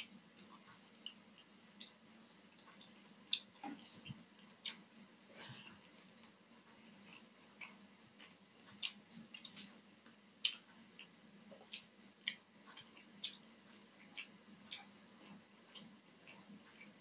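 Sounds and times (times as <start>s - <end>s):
person chewing with wet smacks: 0.0s - 17.0s.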